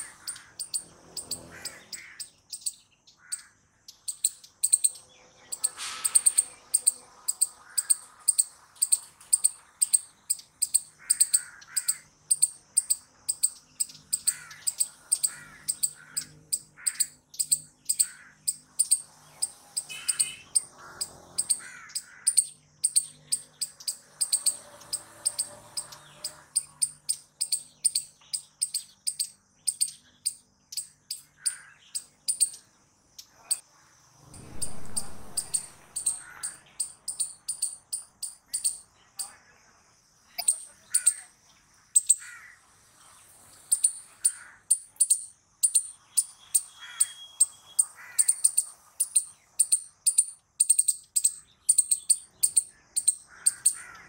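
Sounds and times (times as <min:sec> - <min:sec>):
squirrel chirping alarm call: 0:00.0 - 0:33.6, 0:34.4 - 0:39.4, 0:40.4 - 0:41.3, 0:42.0 - 0:42.6, 0:43.5 - 0:54.0.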